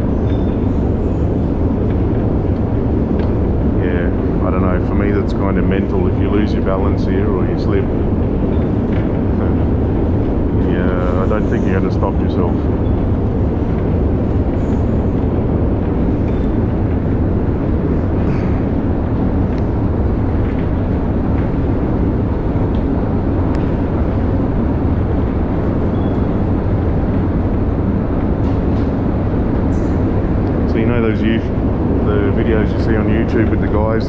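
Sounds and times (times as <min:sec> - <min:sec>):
escalator mechanical rumble: 0:00.0 - 0:34.0.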